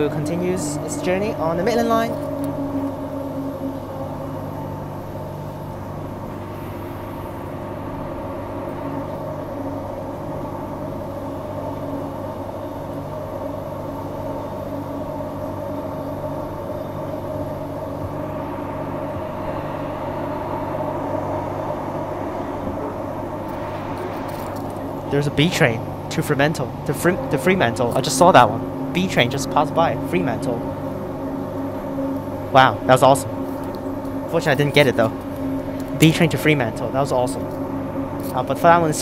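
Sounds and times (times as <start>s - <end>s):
electric train humming: 0.0s - 39.0s.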